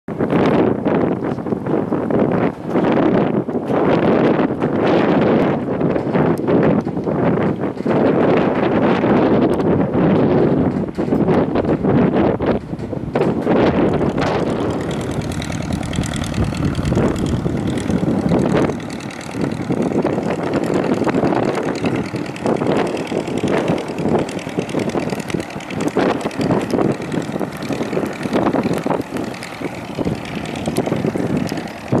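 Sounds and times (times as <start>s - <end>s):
propeller engine droning: 0.1s - 32.0s.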